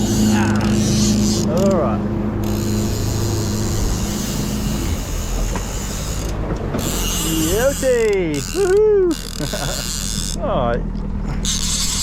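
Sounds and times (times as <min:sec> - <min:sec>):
fishing reel ratcheting: 0:00.0 - 0:10.5, 0:11.4 - 0:12.0
boat engine humming: 0:00.0 - 0:12.0.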